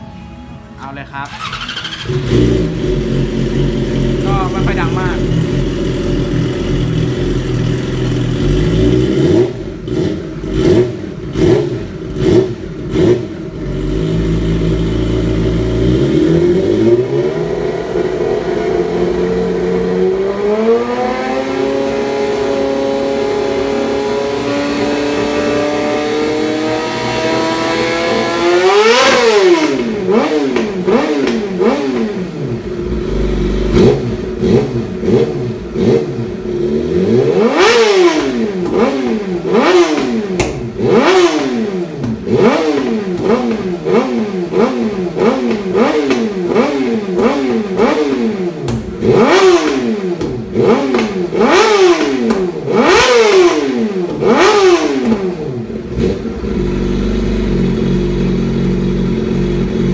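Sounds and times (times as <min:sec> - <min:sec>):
motorcycle engine revving: 0:01.2 - 0:59.9.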